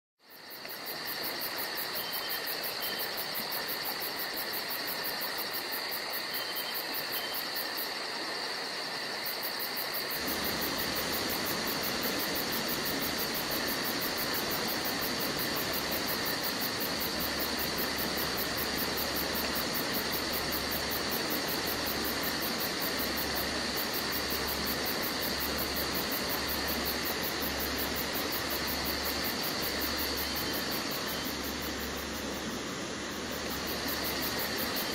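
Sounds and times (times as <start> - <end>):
steady hiss: 0.2 - 34.9.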